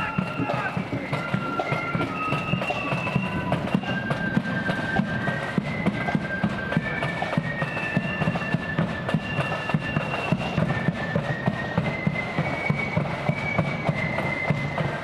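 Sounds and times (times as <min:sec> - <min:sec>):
flutes playing melody: 0:00.0 - 0:15.0
snare and bass drums pounding: 0:00.0 - 0:15.0.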